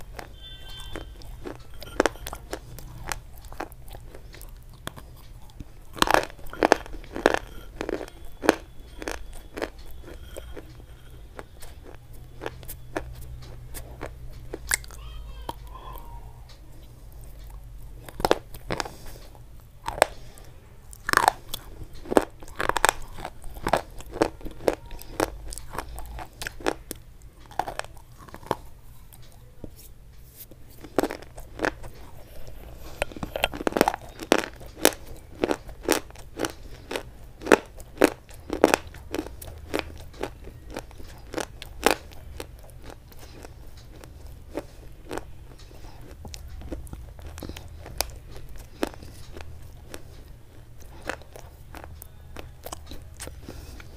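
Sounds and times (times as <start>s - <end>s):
crunching and chewing: 0.0s - 53.9s.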